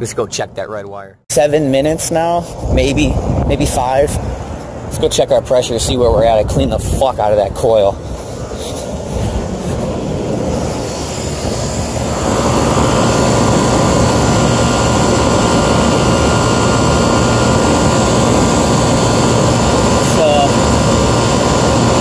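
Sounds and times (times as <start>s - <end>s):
air conditioner unit humming: 0.0s - 22.0s.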